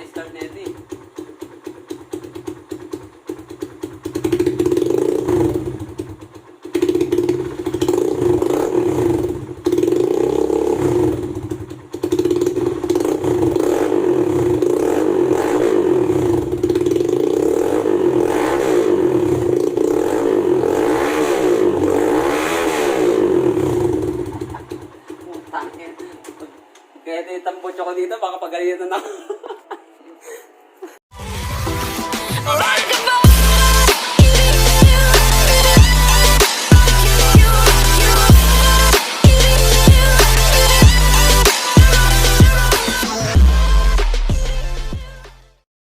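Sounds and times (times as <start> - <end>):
motorcycle engine revving: 0.0 - 27.0, 33.2 - 45.0.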